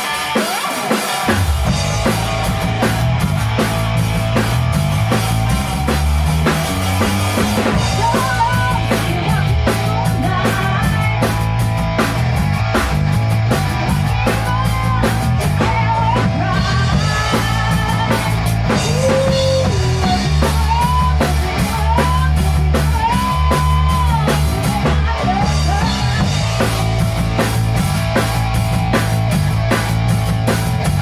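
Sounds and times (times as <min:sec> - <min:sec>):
bass guitar: 0:00.0 - 0:31.0
bending lead guitar notes: 0:00.0 - 0:31.0
drum kit beat: 0:00.0 - 0:31.0
electric guitar: 0:00.0 - 0:31.0.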